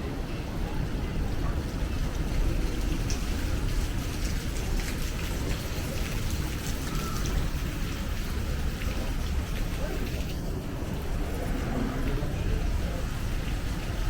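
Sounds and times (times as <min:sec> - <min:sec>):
heavy rain falling: 0:00.0 - 0:14.0
raindrops ticking on surfaces: 0:00.0 - 0:14.0.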